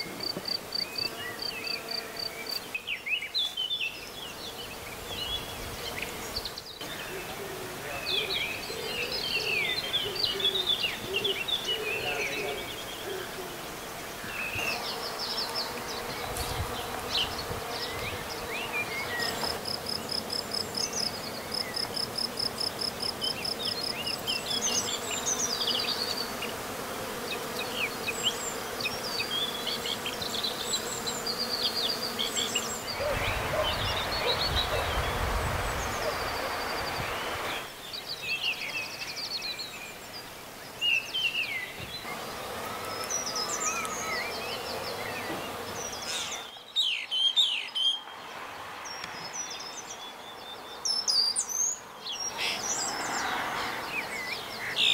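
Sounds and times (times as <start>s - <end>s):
bees buzzing: 0.0s - 46.6s, 52.2s - 54.9s
small birds chirping: 0.0s - 54.9s.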